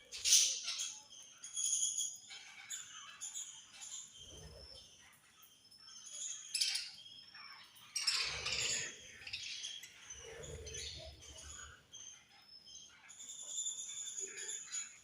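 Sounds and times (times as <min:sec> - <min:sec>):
budgies chirping and chattering: 0:00.0 - 0:15.0.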